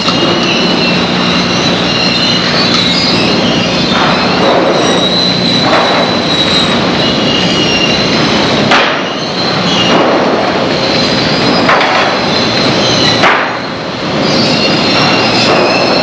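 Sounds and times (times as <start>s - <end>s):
sawmill machinery din: 0.0s - 16.0s.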